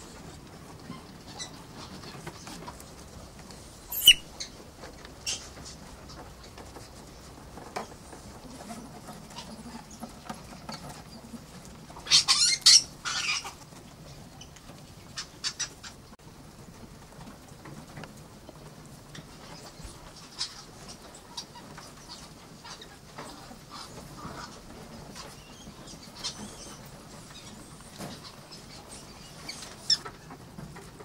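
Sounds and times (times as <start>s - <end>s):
animals scratching in wire cages: 0.0s - 16.1s, 16.9s - 31.0s.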